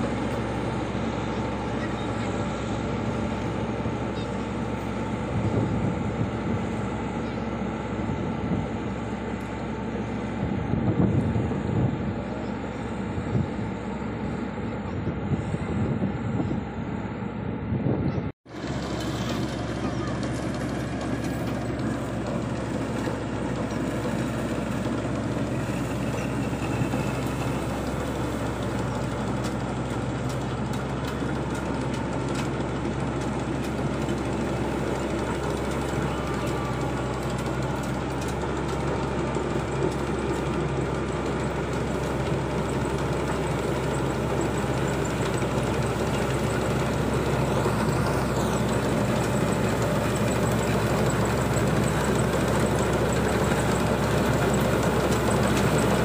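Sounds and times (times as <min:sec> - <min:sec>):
combine harvester engine and threshing: 0:00.0 - 0:56.0.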